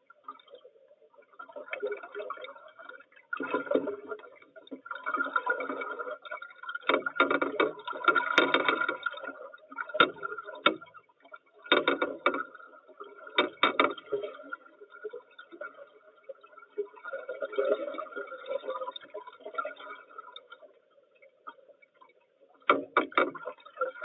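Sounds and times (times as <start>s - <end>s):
gurgling water underwater: 0.0s - 24.0s
underwater knocks and clicks: 1.2s - 24.0s.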